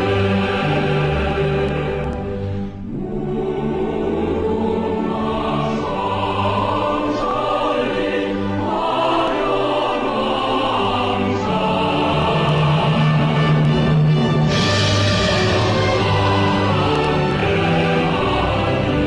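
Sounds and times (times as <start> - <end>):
choir with orchestra: 0.0 - 19.0.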